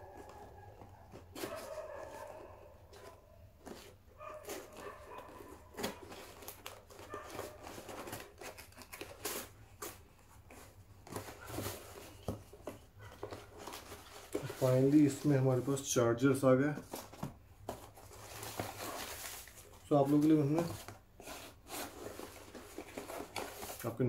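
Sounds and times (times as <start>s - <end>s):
packaging crinkling and rustling: 0.0s - 24.0s.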